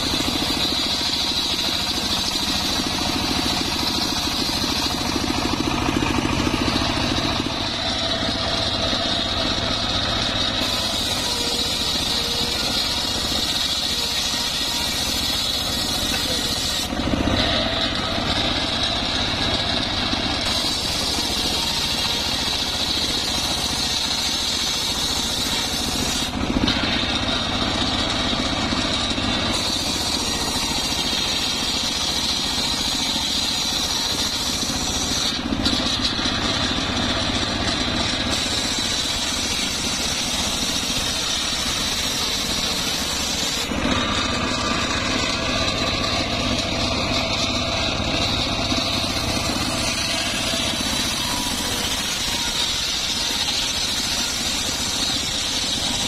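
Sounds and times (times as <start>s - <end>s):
sawmill blade ripping wood: 0.0s - 56.0s.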